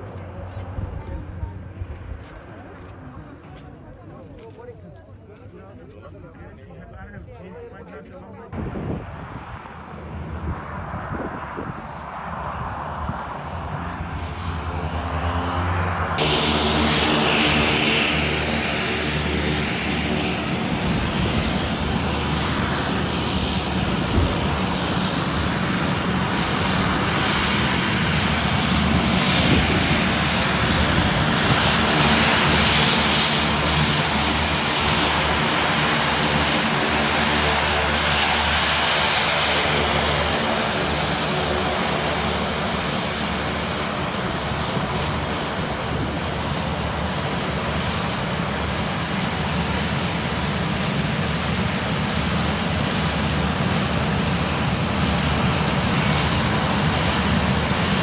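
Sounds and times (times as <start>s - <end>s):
propeller airplane engines droning: 0.0s - 58.0s.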